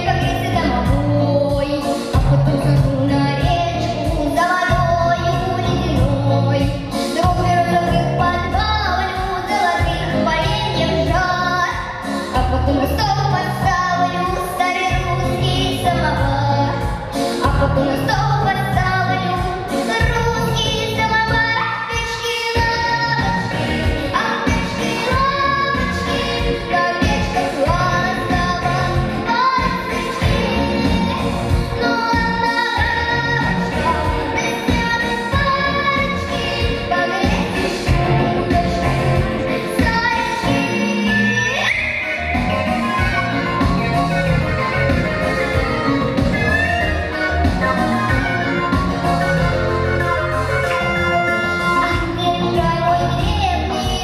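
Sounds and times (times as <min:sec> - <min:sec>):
backing track with steady beat: 0:00.0 - 0:54.0
girl singing into microphone: 0:00.0 - 0:54.0.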